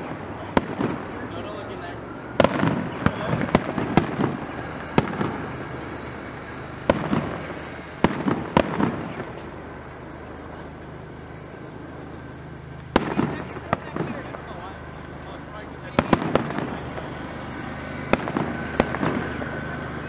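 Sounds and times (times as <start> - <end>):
fireworks bursting: 0.0 - 20.0
noisy background: 0.0 - 20.0.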